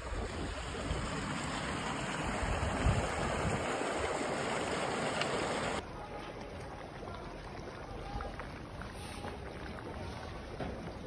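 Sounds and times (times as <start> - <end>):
groundwater gushing and bubbling: 0.0 - 11.0.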